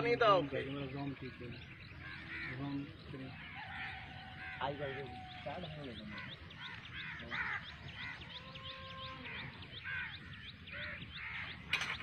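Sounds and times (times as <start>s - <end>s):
caw-like bird calls: 1.0s - 12.0s.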